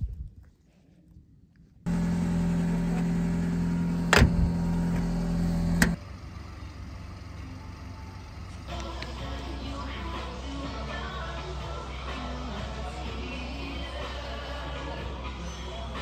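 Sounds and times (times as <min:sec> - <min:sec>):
car engine and road drone: 0:01.9 - 0:16.0.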